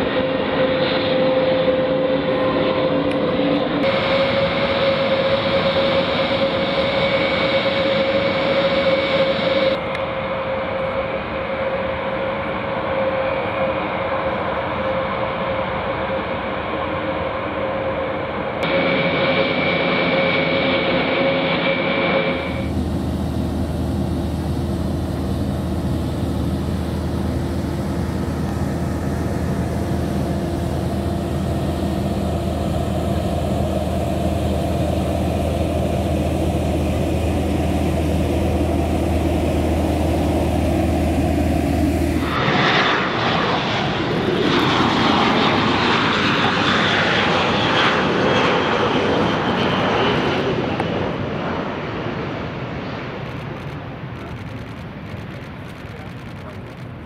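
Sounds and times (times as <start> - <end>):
turboprop engines roaring: 0.0 - 57.0.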